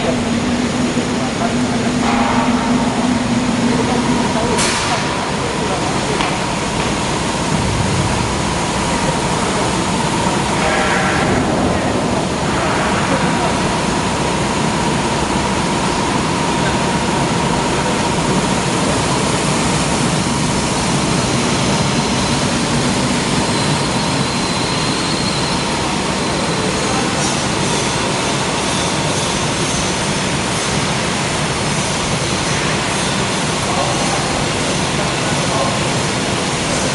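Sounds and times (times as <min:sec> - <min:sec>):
printing press running: 0:00.0 - 0:36.9.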